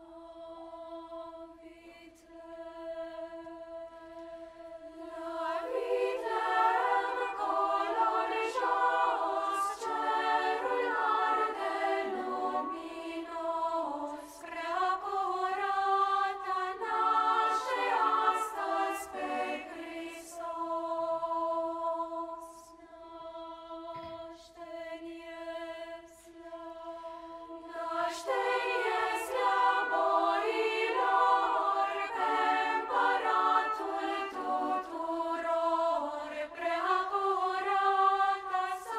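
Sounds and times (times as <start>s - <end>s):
children's choir singing carol: 0.0s - 38.9s.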